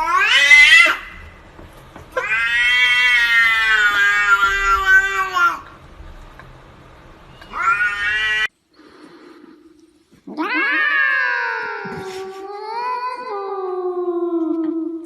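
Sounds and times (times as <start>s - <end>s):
cats meowing: 0.0s - 6.1s, 7.2s - 8.5s, 10.3s - 15.0s.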